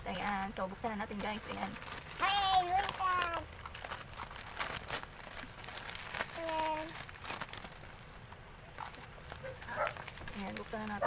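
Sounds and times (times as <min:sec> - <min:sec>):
plastic and bubble wrap crinkling: 0:00.0 - 0:11.0.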